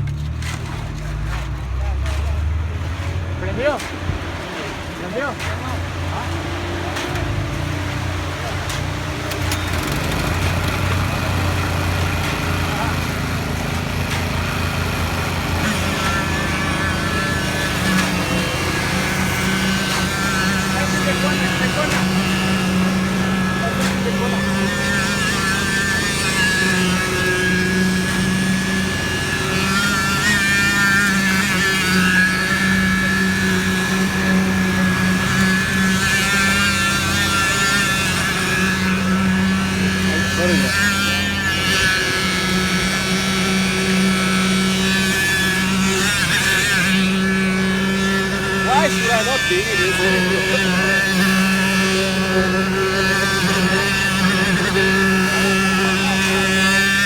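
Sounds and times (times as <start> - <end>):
engine humming: 0.0 - 56.9.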